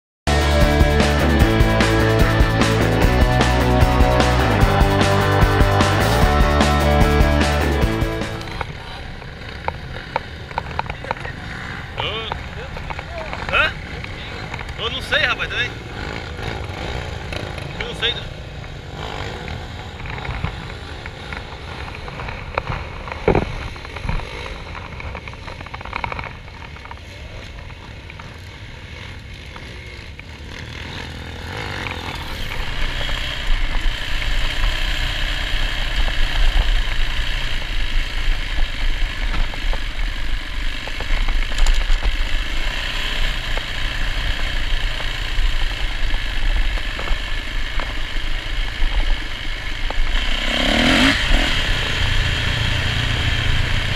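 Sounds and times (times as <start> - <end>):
dirt bike engine: 0.3 - 53.9
tyres on gravel track: 0.3 - 53.9.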